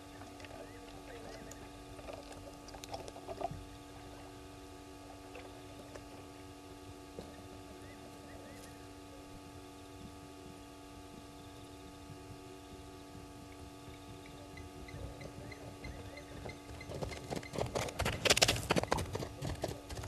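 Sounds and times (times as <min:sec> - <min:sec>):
steady droning background: 0:00.0 - 0:20.0.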